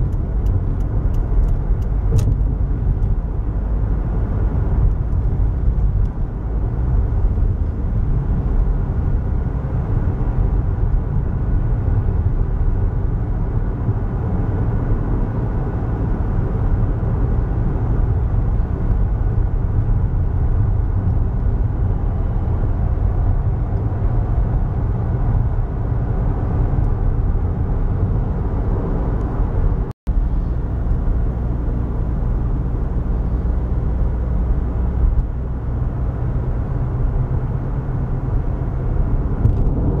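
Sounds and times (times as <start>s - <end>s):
car interior road noise: 0.0s - 40.0s.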